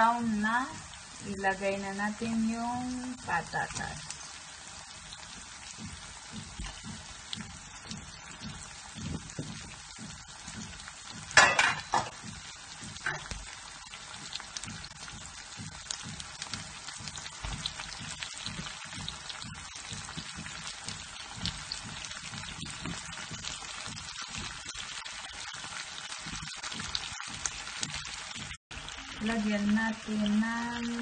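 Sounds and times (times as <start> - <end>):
potatoes sizzling in hot oil: 0.0 - 31.0.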